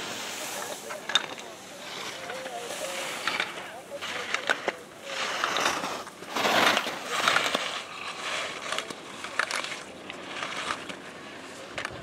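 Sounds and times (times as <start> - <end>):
skis carving with scraping swoosh: 0.0 - 12.0.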